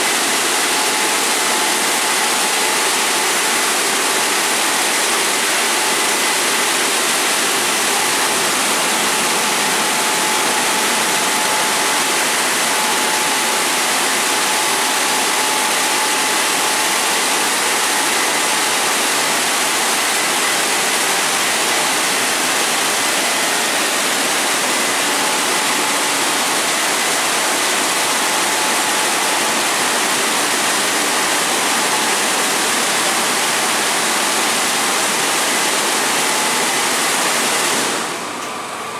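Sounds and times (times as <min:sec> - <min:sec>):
car wash rushing noise: 0:00.0 - 0:38.9.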